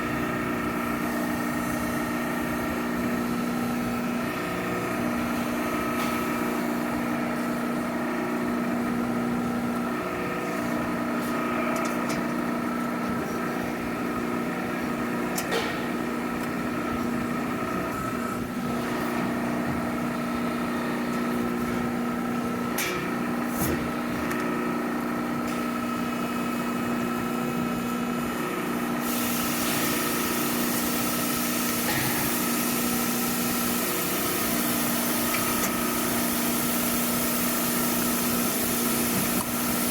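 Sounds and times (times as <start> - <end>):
machine tool motor hum: 0.0 - 39.9.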